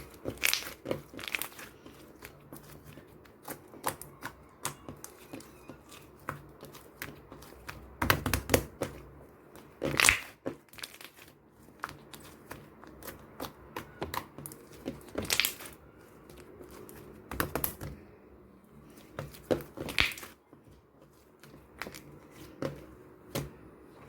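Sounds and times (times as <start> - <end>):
slime squished by hand: 0.0 - 18.0, 18.8 - 20.5.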